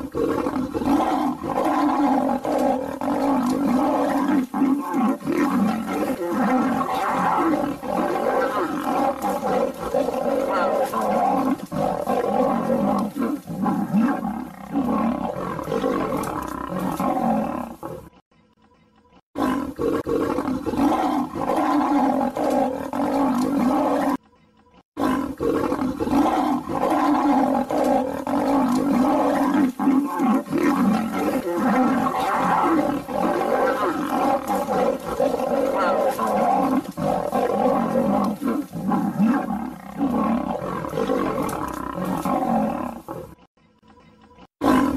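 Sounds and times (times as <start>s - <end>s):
lion roaring and snarling: 0.0s - 18.1s, 19.4s - 24.2s, 25.0s - 43.5s, 44.6s - 44.9s.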